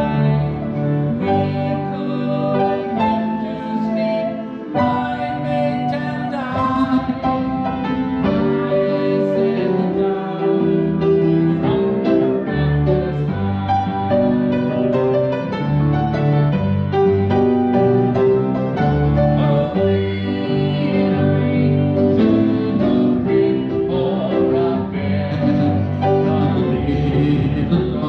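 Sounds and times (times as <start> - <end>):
person singing: 0.0 - 15.3, 18.9 - 28.0
grand piano accompaniment: 0.0 - 28.0.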